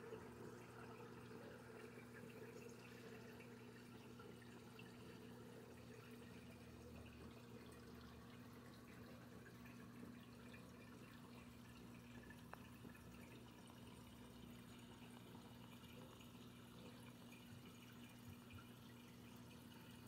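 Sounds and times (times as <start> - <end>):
aquarium pump hum: 0.0 - 20.0
water trickling and dripping: 0.0 - 20.0.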